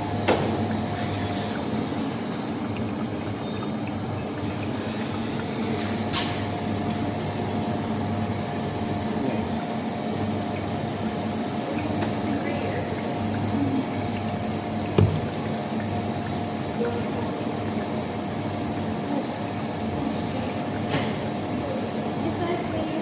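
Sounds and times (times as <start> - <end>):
steady hum: 0.0 - 23.0
water pouring onto coffee grounds: 0.0 - 23.0.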